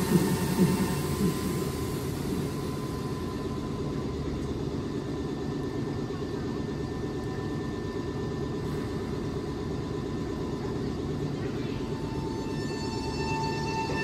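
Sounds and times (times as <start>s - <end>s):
electric trains humming: 0.0s - 14.0s
faint steady whines: 0.0s - 14.0s.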